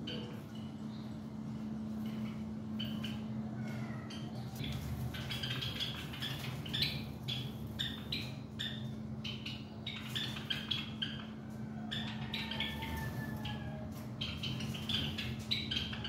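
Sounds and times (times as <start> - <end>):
nestling birds chirping: 0.0 - 16.0.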